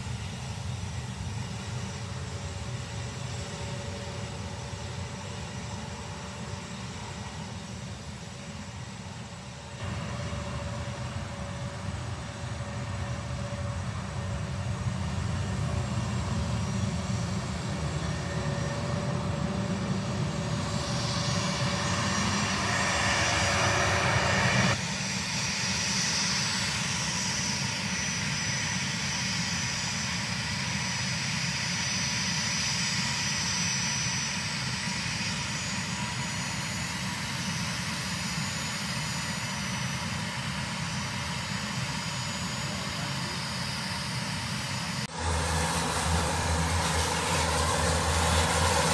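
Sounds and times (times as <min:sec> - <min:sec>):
faint high whine: 0:00.0 - 0:27.0, 0:34.1 - 0:48.9
jet engines roaring: 0:00.0 - 0:48.9.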